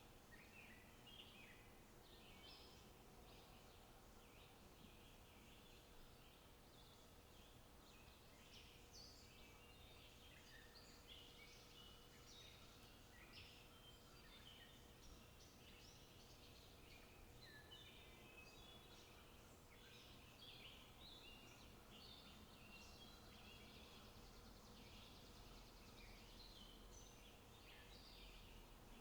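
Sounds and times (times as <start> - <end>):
small birds chirping and trilling: 2.1 - 28.7.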